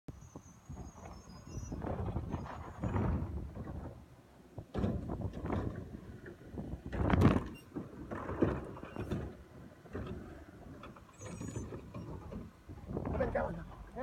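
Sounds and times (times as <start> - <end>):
truck engine rumble: 0.1 - 14.0
clunks and bangs: 1.0 - 14.0.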